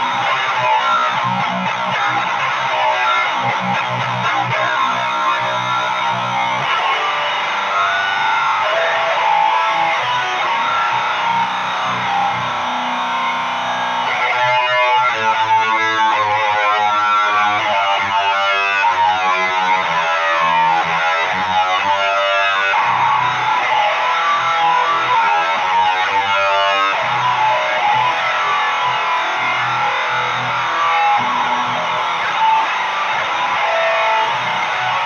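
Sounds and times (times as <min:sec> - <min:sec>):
distorted electric guitar: 0:00.0 - 0:35.0.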